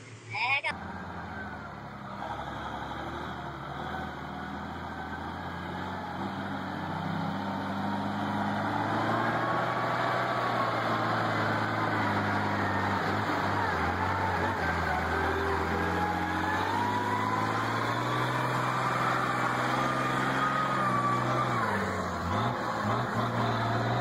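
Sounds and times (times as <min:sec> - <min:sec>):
truck diesel engine running: 0:00.7 - 0:24.0.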